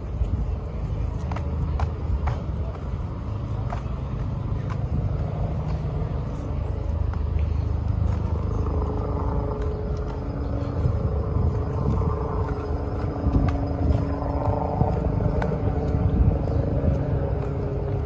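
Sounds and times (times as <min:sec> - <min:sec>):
low traffic rumble: 0:00.0 - 0:18.0.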